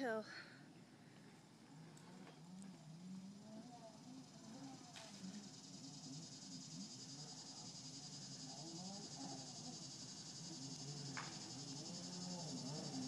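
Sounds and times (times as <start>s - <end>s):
distant voices: 0.0s - 13.0s
insects chorus: 0.7s - 13.0s.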